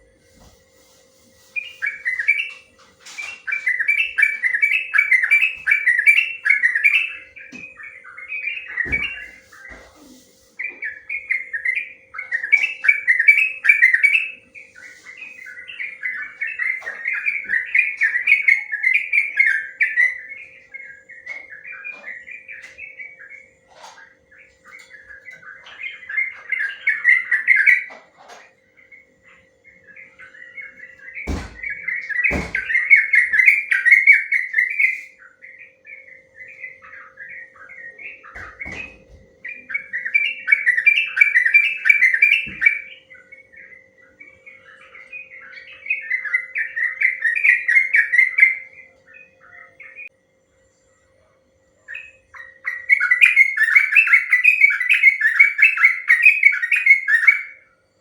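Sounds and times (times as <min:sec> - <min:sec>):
bird warbling song: 0:00.0 - 0:58.0
faint steady hum: 0:00.0 - 0:58.0.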